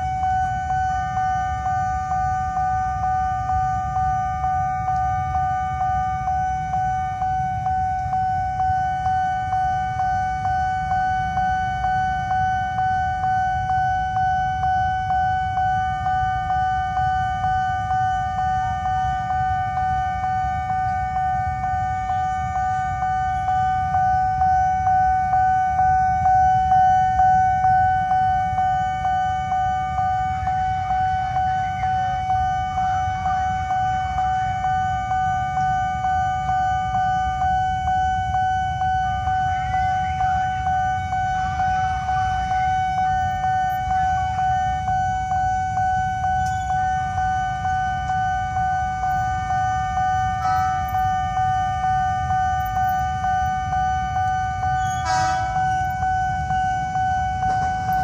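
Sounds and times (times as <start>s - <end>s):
level crossing warning bell ringing: 0.0s - 58.0s
low rumble of traffic: 0.0s - 58.0s.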